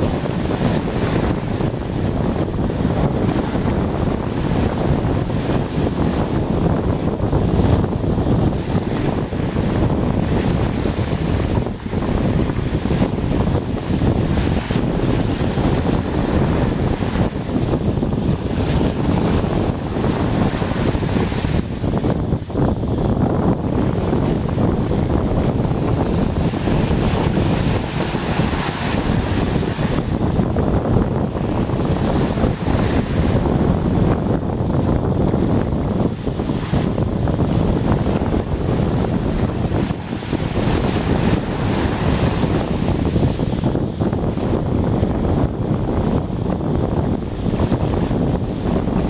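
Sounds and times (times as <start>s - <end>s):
small waves washing up a beach: 0.0s - 49.0s
wind rumble on microphone: 0.0s - 49.0s.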